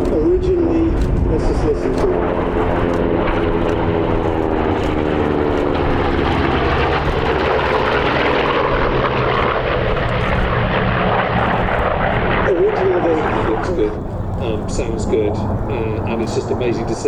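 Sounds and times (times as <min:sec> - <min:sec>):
propeller plane passing: 0:00.0 - 0:17.0.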